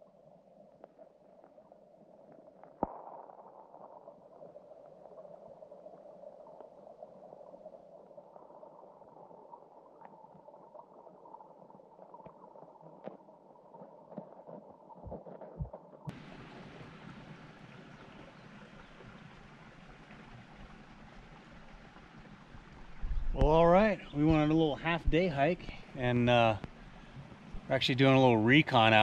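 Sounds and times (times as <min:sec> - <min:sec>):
creek running: 0:05.1 - 0:29.0.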